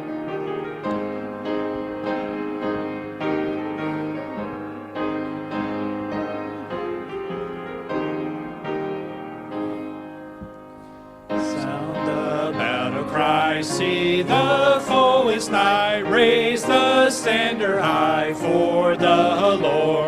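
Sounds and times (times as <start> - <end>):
piano playing hymn chords: 0.0 - 20.0.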